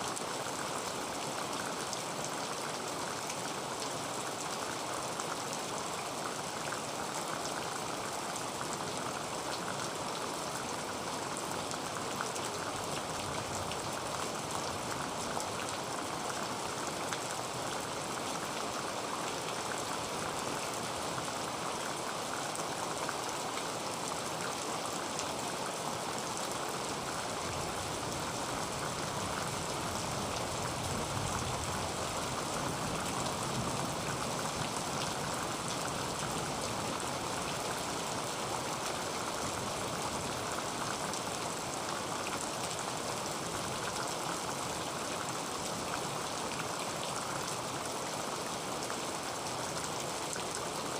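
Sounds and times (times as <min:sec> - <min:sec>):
heavy rain on a tin roof: 0:00.0 - 0:50.9.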